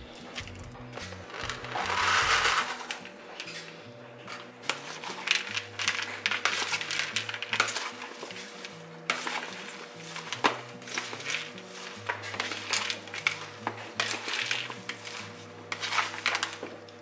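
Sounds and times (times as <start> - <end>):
background music: 0.0 - 17.0
wooden spoon scraping a bowl: 0.0 - 17.0
nuts sliding into plastic bowl: 1.0 - 17.0.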